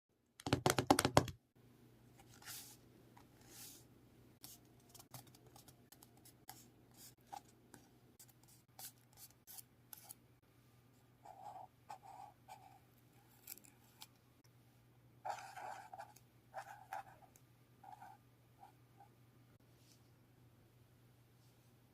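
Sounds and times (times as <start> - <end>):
low steady hum: 1.6 - 21.9.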